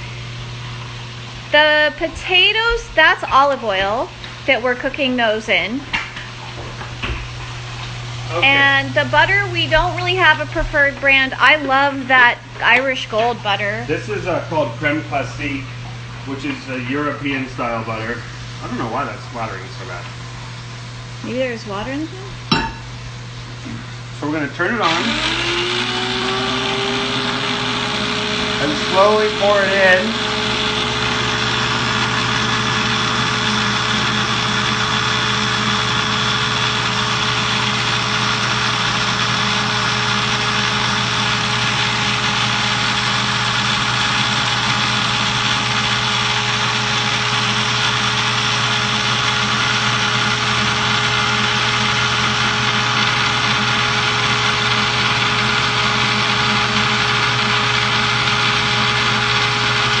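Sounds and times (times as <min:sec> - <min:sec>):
blender motor running: 0:00.0 - 0:05.5, 0:07.8 - 0:22.4, 0:24.2 - 1:00.0.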